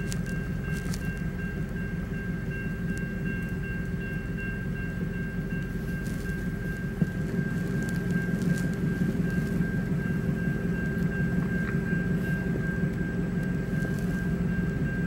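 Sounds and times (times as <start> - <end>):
engine idling: 0.0 - 15.0
railroad crossing bell ringing: 0.0 - 15.0.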